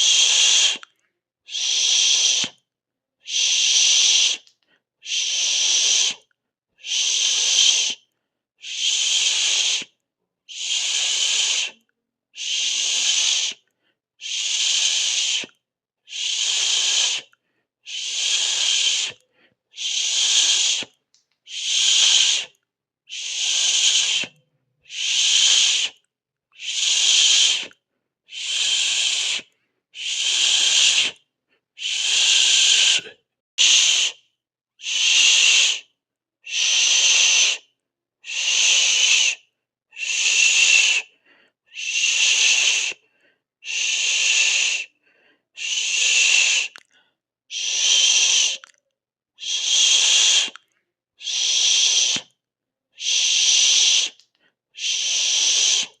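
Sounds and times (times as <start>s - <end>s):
person hissing with mouth: 0.0s - 2.6s, 3.2s - 26.0s, 26.6s - 45.0s, 45.6s - 48.8s, 49.4s - 52.4s, 53.0s - 56.0s.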